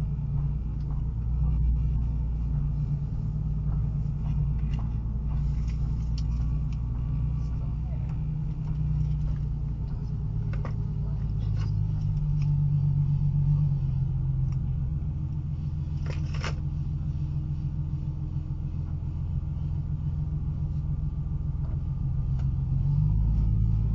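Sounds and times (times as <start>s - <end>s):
car engine and road rumble: 0.0s - 23.9s.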